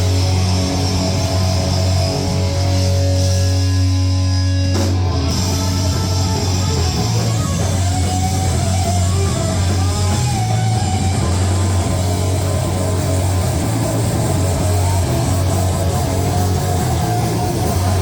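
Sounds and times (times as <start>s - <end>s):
distorted electric guitar: 0.0s - 18.0s
drums: 0.0s - 18.0s
live punk rock band playing: 0.0s - 18.0s.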